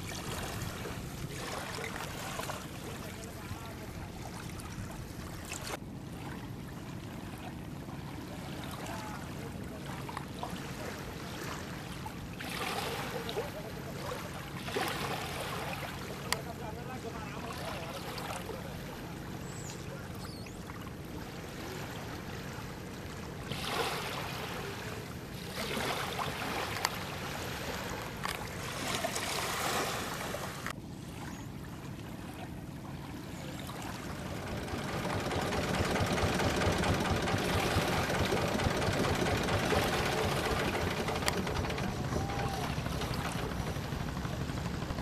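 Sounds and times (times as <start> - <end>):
water rushing and splashing: 0.0 - 19.2, 20.8 - 30.8, 31.8 - 45.0
boat engine running: 0.0 - 45.0.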